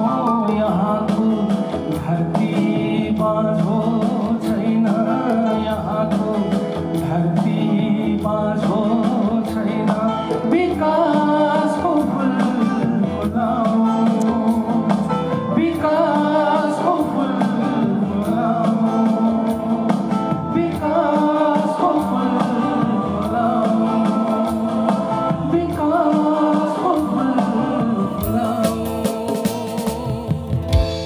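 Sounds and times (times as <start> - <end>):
acoustic guitar: 0.0 - 31.0
electric bass: 0.0 - 31.0
person singing: 0.0 - 31.0.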